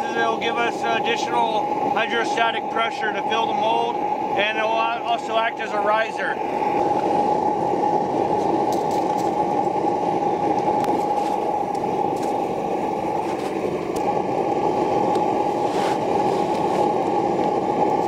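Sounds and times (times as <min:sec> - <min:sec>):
machine droning with a whine: 0:00.0 - 0:18.0.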